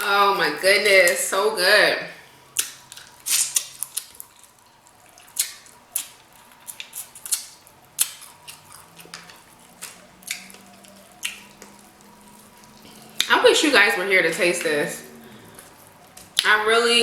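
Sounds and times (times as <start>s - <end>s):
wet smacking and chewing: 2.3s - 16.6s.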